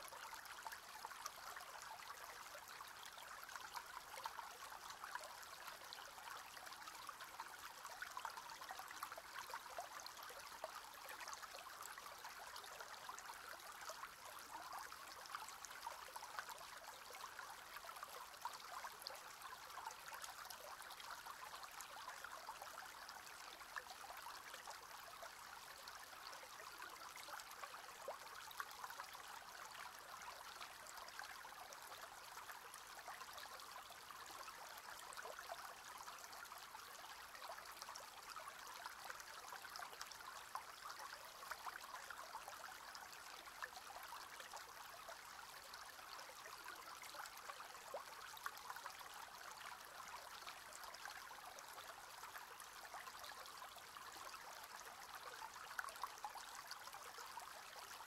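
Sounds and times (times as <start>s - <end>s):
water trickling through reeds: 0.0s - 58.0s.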